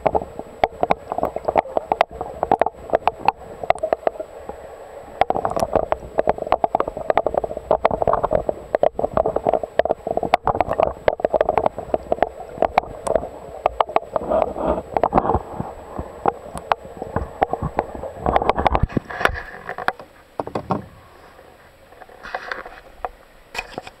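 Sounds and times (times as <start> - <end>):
underwater murmur: 0.0 - 19.8
underwater clicks and knocks: 0.0 - 21.0, 22.0 - 24.0.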